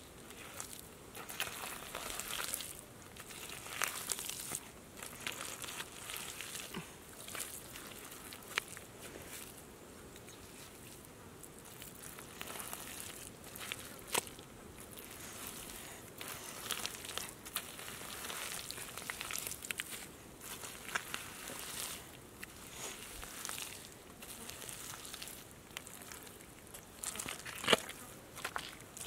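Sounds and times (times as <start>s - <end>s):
hands digging through wet mud: 0.3s - 9.6s, 10.2s - 29.0s.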